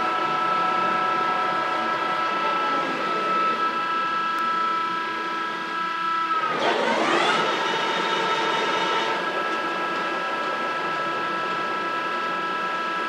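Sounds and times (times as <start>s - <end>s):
lathe whine: 0.0s - 13.0s.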